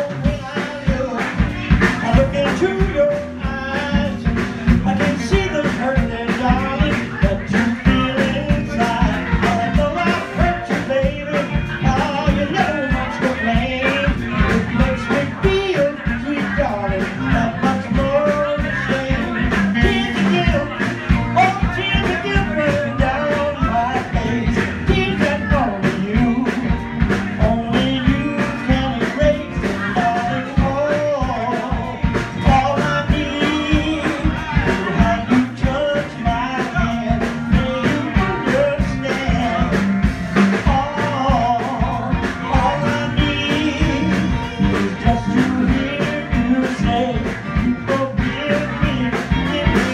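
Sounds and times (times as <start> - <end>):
electric guitars: 0.0 - 49.9
man singing into microphone: 0.0 - 49.9
steady drum beat: 0.0 - 49.9.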